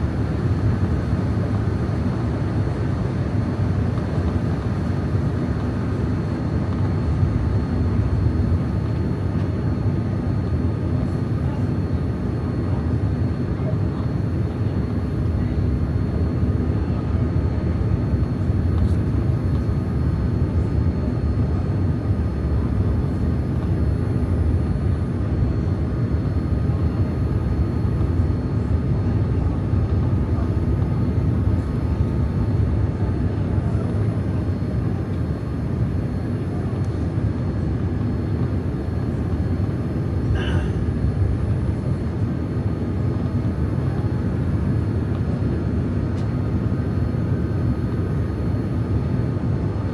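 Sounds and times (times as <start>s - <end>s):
airplane cabin engine roar: 0.0s - 49.9s.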